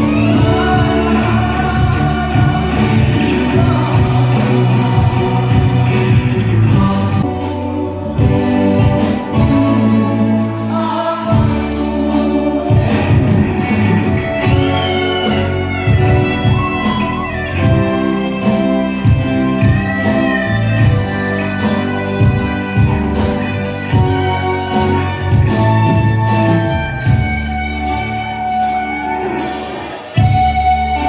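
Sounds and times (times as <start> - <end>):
bass guitar: 0.0 - 31.0
drums: 0.0 - 31.0
electric guitar: 0.0 - 31.0
keyboard: 0.0 - 31.0.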